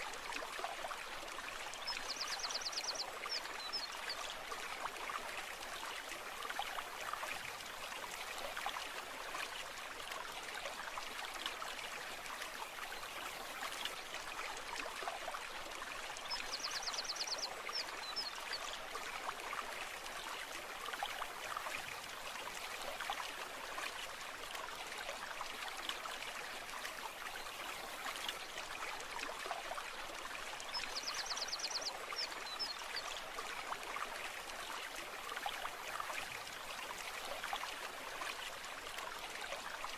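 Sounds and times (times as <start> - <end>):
brook flowing water: 0.0 - 39.9.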